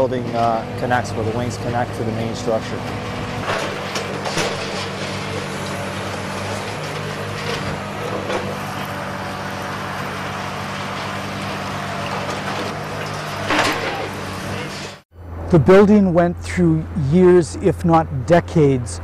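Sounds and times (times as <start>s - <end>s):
heavy machinery engine running: 0.0s - 18.4s.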